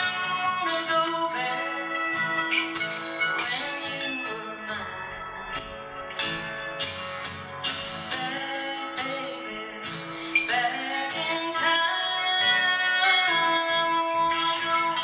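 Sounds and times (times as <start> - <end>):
acoustic guitars playing country-folk: 0.0 - 15.0.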